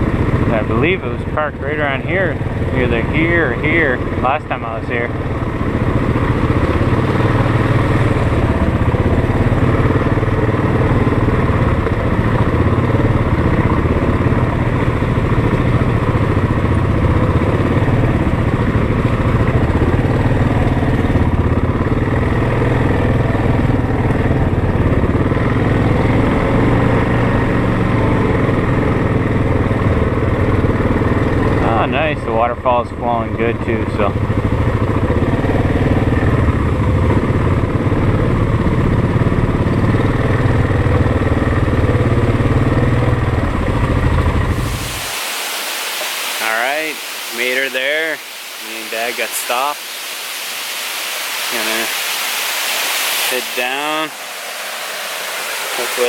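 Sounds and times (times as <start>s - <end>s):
atv engine droning: 0.0s - 56.0s.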